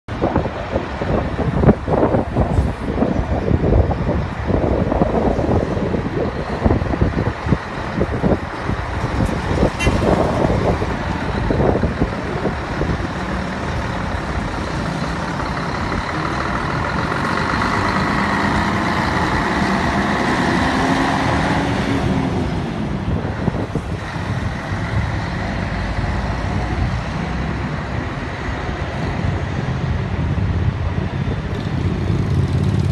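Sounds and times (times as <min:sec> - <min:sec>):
bus diesel engine running: 0:00.1 - 0:32.9.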